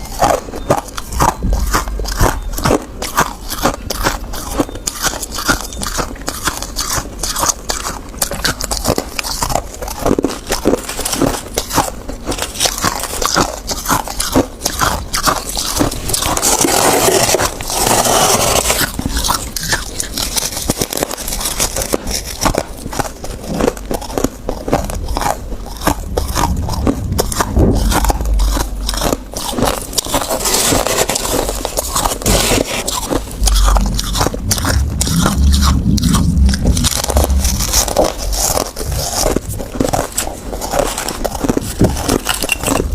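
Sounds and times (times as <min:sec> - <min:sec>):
person chewing ice: 0:00.0 - 0:42.9.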